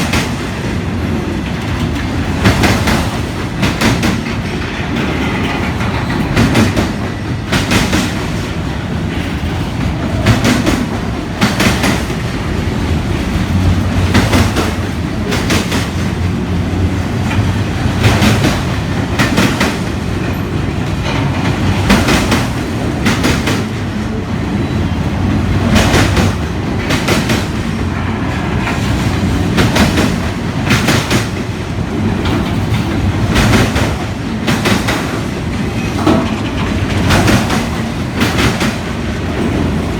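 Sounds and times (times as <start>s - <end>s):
wheels clacking over rail joints: 0.0s - 39.9s.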